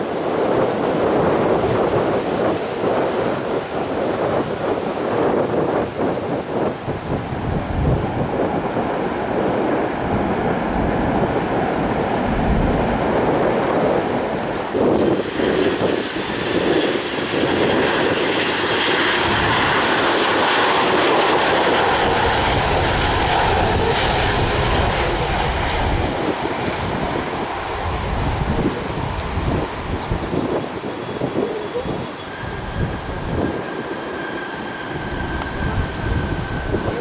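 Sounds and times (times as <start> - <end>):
jet airliner engine hiss and whine: 0.0 - 37.0
wind rumble on microphone: 0.0 - 37.0.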